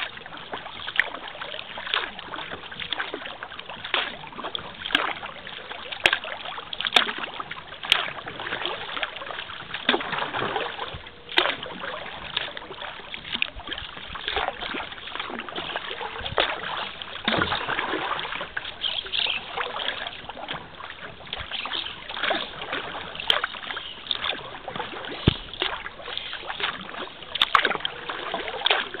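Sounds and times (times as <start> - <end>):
kayak paddle splashing: 0.0 - 29.0
water trickling and sloshing: 0.0 - 29.0.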